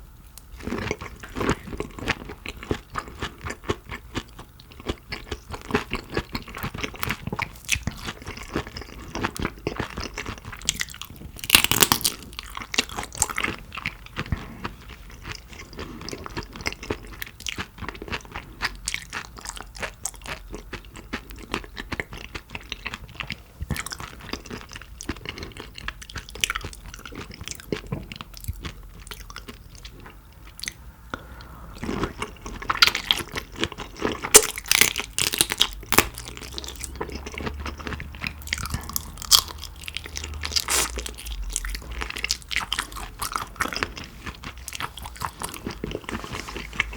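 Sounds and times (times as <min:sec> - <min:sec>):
chewing and crunching shrimp: 0:00.0 - 0:46.9.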